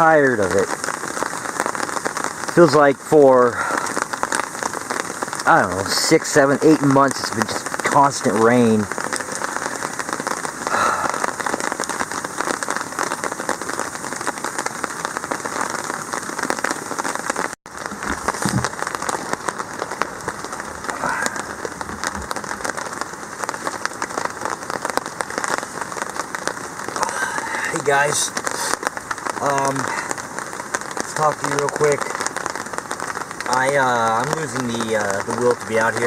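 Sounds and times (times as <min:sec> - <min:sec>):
rain drops pattering: 0:00.0 - 0:36.0.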